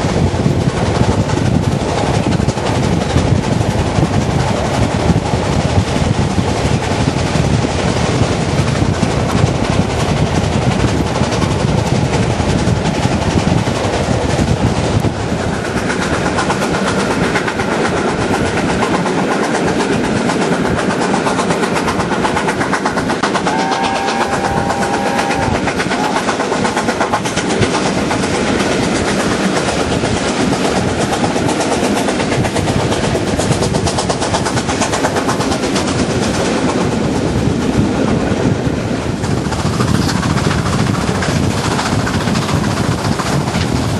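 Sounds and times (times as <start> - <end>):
rushing air: 0.0 - 43.9
steam locomotive exhaust: 0.0 - 43.9
train wheel noise: 0.0 - 43.9.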